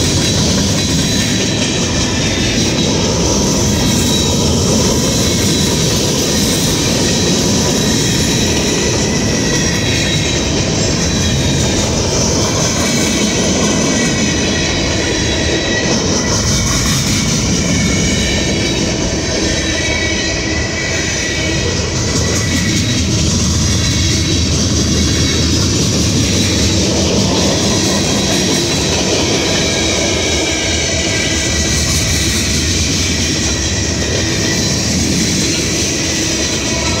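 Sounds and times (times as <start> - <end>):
train wheels rumbling on track: 0.0 - 37.0
high-pitched wheel squeal: 0.1 - 37.0.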